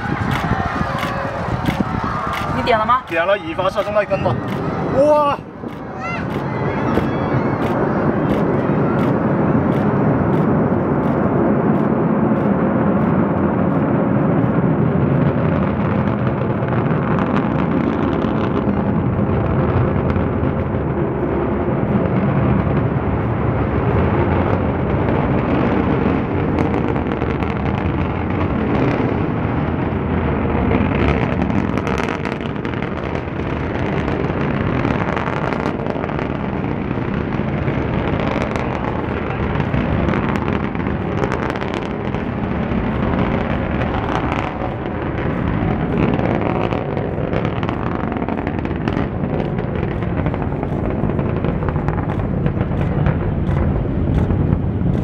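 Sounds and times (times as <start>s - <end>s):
rocket engines rumbling: 0.0s - 55.0s.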